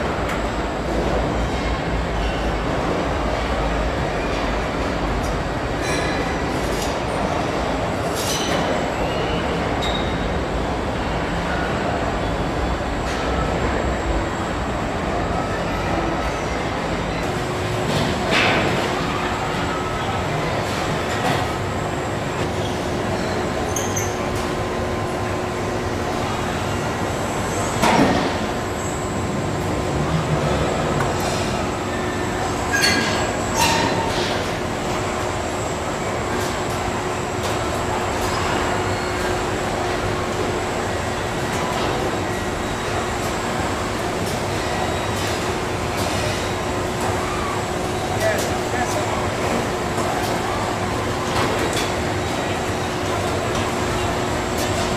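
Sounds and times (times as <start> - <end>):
factory machinery rumble: 0.0 - 54.9.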